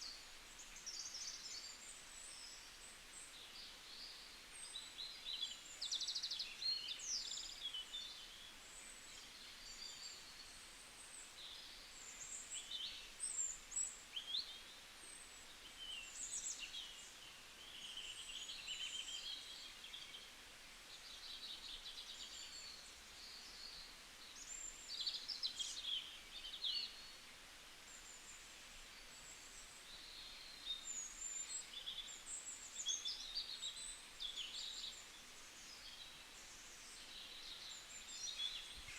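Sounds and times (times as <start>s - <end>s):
faint steady hiss: 0.0s - 38.9s
small birds chirping and trilling: 0.0s - 38.9s.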